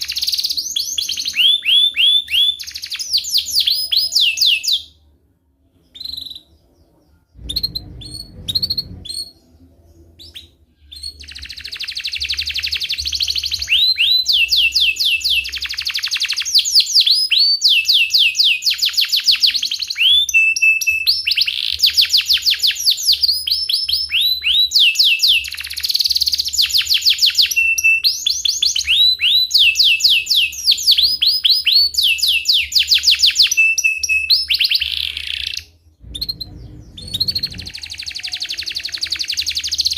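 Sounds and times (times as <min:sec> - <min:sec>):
canary singing trills: 0:00.0 - 0:05.0, 0:05.7 - 0:39.9.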